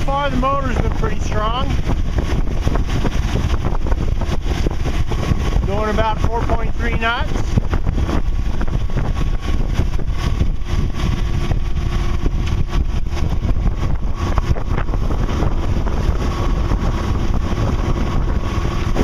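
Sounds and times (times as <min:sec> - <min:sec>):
boat engine drone: 0:00.0 - 0:19.0
wind buffeting microphone: 0:00.0 - 0:19.0.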